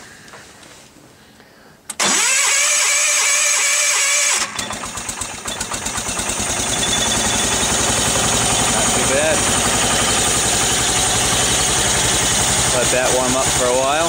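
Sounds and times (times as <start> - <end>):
starter cranking engine: 1.9 - 14.0
small engine running: 2.0 - 14.0.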